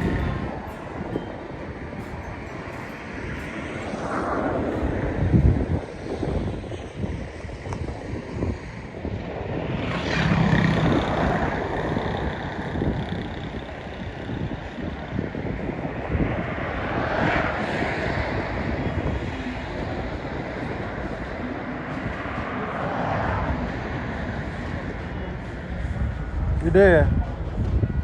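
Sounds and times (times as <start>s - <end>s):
steady traffic rumble: 0.0s - 28.0s
vehicles passing: 0.0s - 28.0s
wind buffeting microphone: 0.0s - 28.0s.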